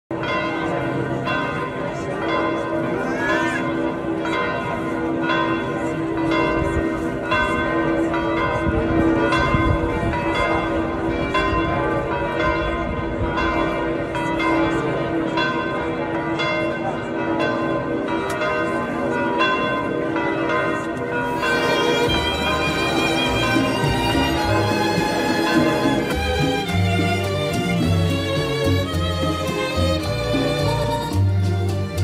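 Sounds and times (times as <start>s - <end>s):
large church bells pealing: 0.1s - 32.0s.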